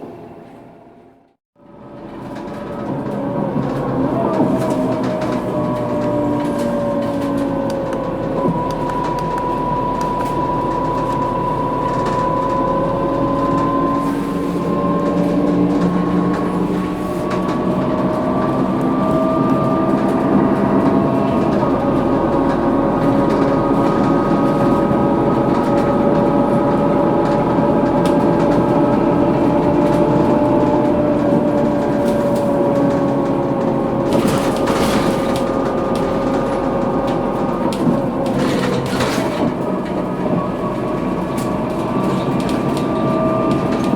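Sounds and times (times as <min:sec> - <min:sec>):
bus differential whining: 0:00.0 - 0:43.9
bus running noise: 0:00.0 - 0:43.9.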